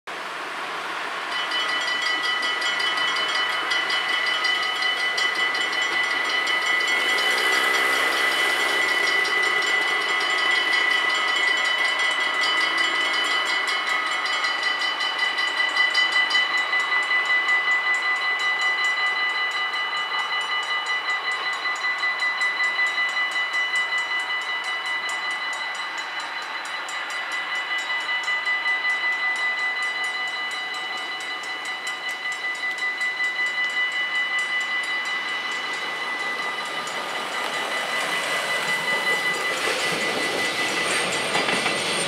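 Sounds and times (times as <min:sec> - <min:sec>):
train arriving: 0:00.1 - 0:42.0
level crossing bells ringing: 0:01.3 - 0:42.0.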